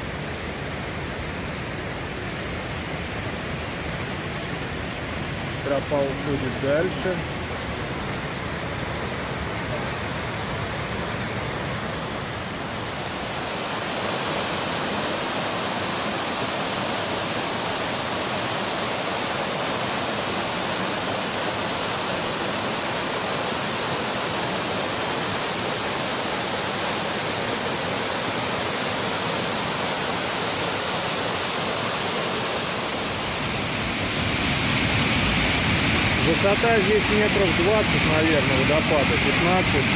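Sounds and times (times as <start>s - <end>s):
rushing waterfall: 0.0s - 39.9s.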